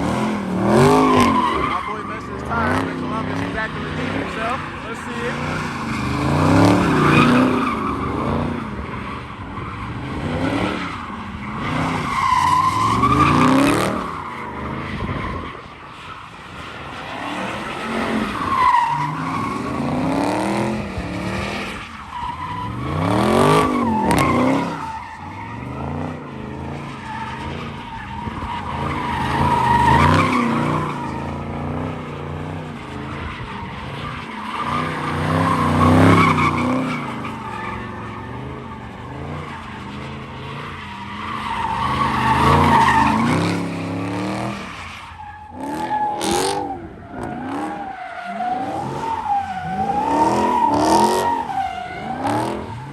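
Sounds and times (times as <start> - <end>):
car engines revving: 0.0 - 52.9
tires squealing: 0.0 - 52.9.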